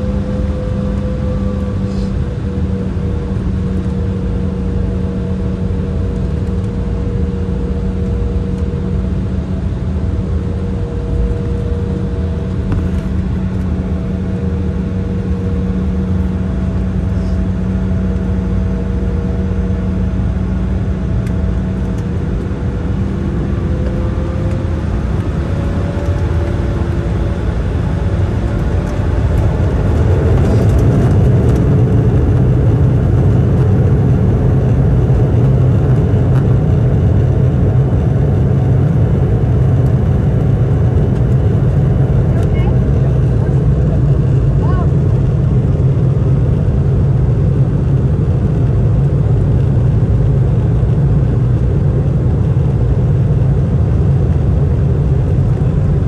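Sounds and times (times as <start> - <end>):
jet engines humming and whining: 0.0 - 56.0.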